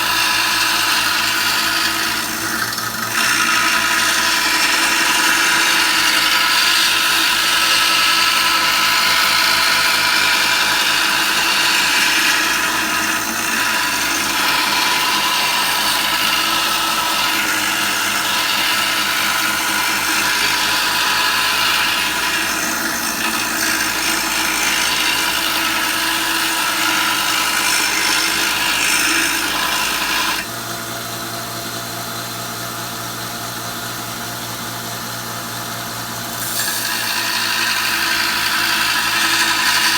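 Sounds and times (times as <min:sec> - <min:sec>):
steel grinding on sanding belt: 0:00.0 - 0:30.5, 0:36.1 - 0:39.9
belt sander running hum: 0:00.0 - 0:39.9.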